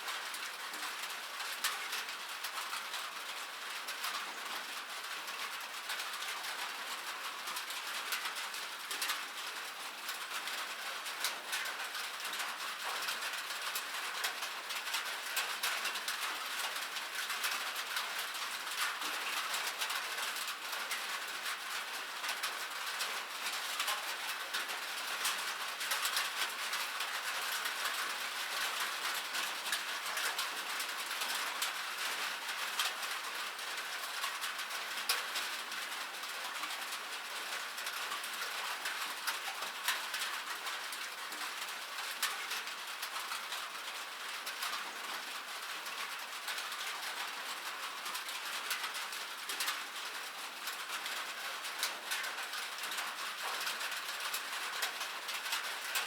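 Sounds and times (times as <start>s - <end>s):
rain pattering on metal: 0.0s - 56.0s.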